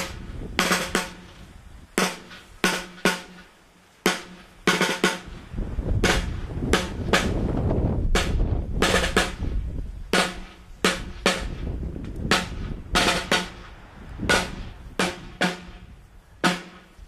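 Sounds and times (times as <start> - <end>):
snare drums beating a march: 0.0 - 1.4, 2.0 - 5.4, 6.0 - 17.0.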